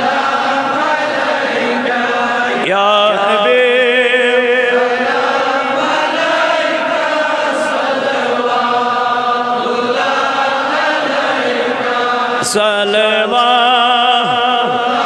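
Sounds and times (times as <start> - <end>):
several voices chanting: 0.0 - 15.0.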